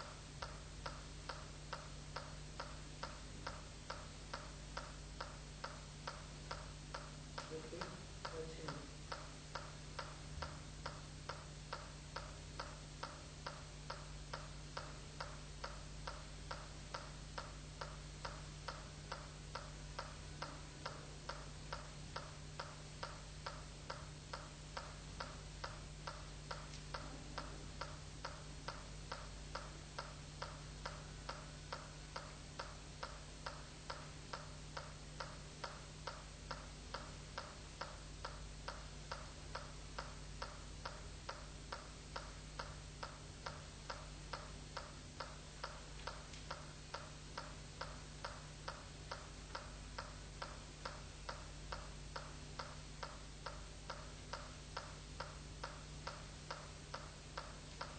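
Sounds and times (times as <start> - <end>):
low steady hum: 0.0 - 57.9
steady ticking beat: 0.0 - 57.9.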